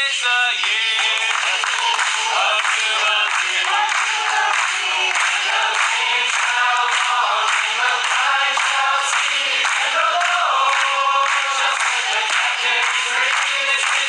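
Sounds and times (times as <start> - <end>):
choir singing a religious song: 0.0 - 14.0.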